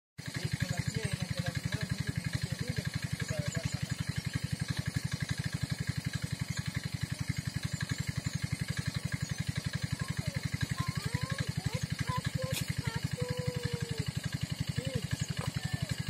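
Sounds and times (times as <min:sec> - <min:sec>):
small engine chugging: 0:00.2 - 0:16.0.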